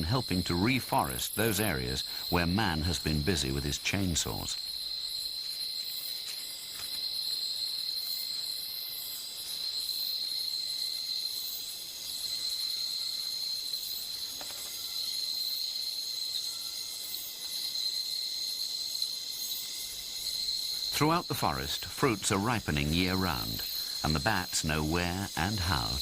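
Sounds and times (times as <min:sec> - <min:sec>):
fast pulsing insect calls: 0:00.0 - 0:26.0
insect chorus trilling: 0:00.0 - 0:26.0.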